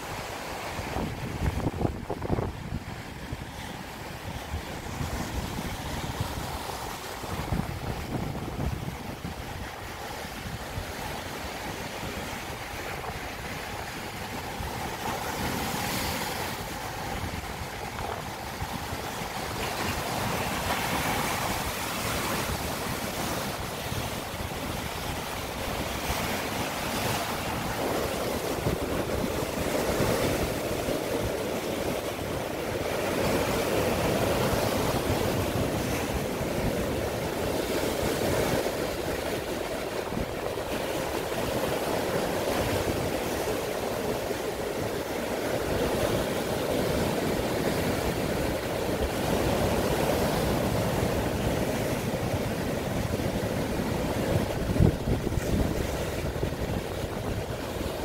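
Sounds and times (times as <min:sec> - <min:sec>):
surf crashing over rocks: 0:00.0 - 0:58.0.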